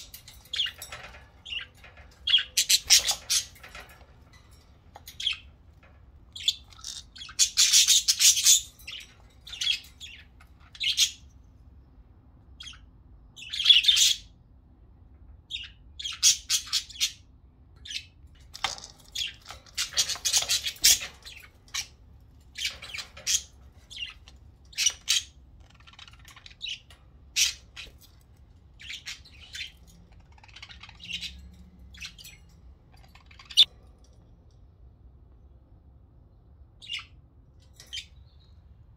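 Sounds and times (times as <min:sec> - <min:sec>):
budgerigars chirping and squawking: 0:00.0 - 0:11.3, 0:12.6 - 0:14.4, 0:15.5 - 0:33.9, 0:36.8 - 0:37.2.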